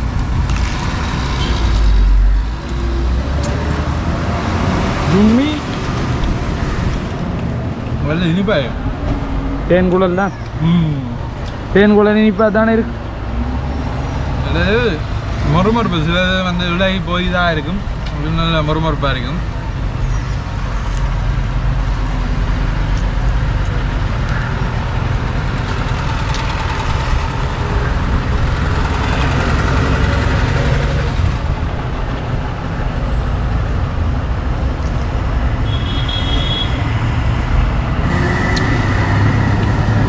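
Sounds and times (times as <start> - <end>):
busy road traffic rumble: 0.0 - 40.0.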